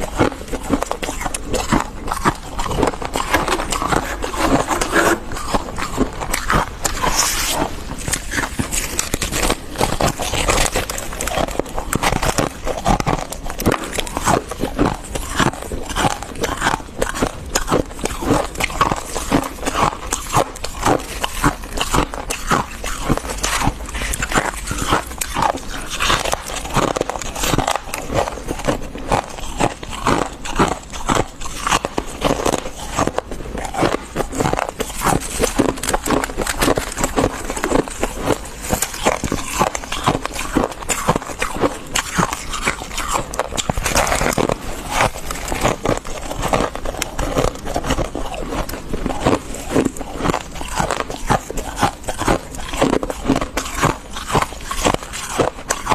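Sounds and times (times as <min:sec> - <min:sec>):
frost crunching: 0:00.0 - 0:55.9.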